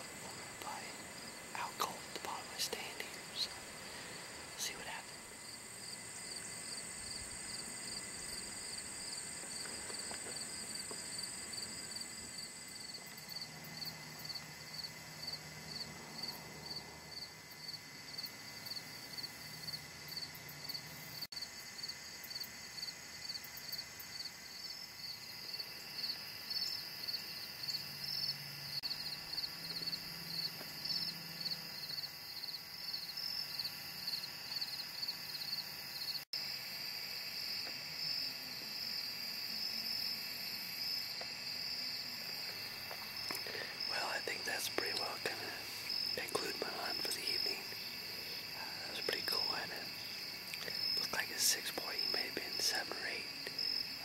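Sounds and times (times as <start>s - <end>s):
crickets chirping: 0.0s - 54.0s
high continuous insect trill: 0.0s - 54.0s.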